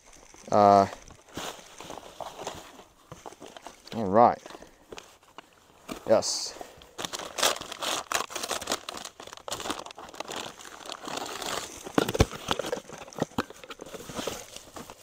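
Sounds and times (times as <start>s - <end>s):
paper bag crinkling: 0.0s - 15.0s.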